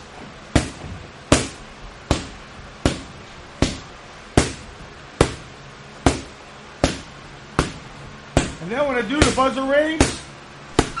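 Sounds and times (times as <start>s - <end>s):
boxing gloves punching a target: 0.5s - 11.0s.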